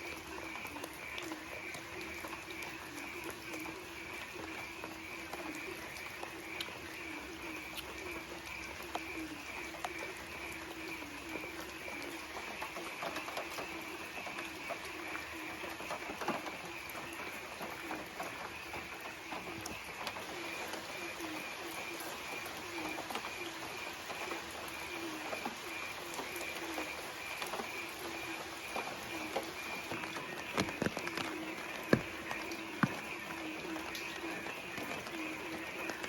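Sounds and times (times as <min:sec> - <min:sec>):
doves cooing: 0:00.0 - 0:36.0.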